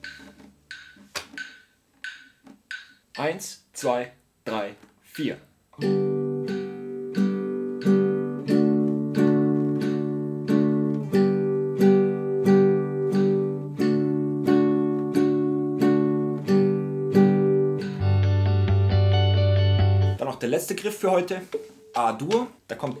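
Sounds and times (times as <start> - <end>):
acoustic guitar strumming: 0.0 - 3.0, 5.8 - 20.2, 20.8 - 22.6.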